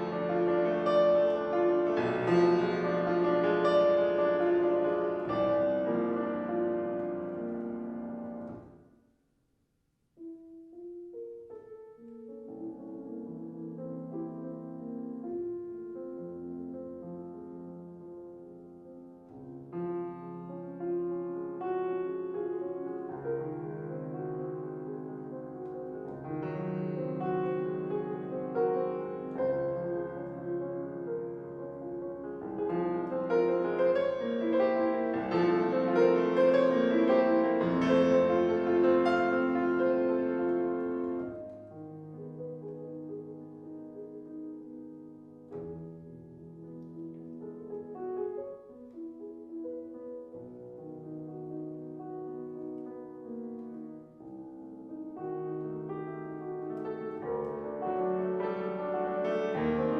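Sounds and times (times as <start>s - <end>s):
classical piano music: 0.0s - 9.2s, 10.1s - 59.9s.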